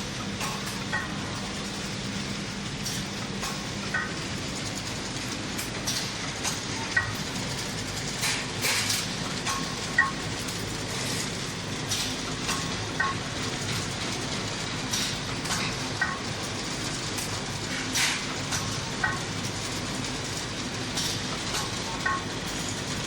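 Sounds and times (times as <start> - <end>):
machine mechanical clatter: 0.0 - 23.0.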